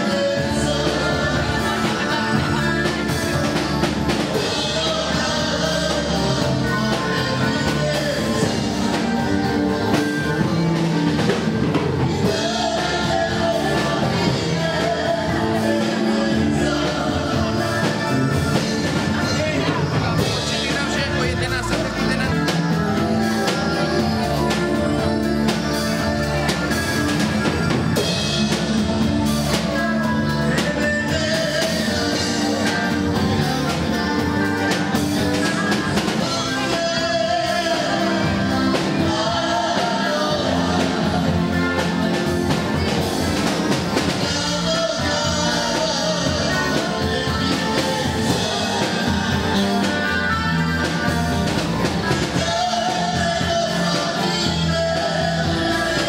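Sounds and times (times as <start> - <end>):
drum kit: 0.0 - 56.0
electric guitar: 0.0 - 56.0
electric keyboard: 0.0 - 56.0
live dance band playing: 0.0 - 56.0
man singing: 0.0 - 56.0.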